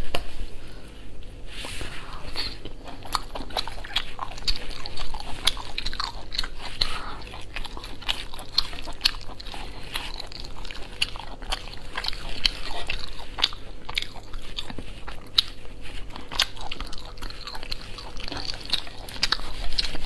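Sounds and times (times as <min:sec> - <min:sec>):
biting and chewing meat: 0:02.2 - 0:20.0.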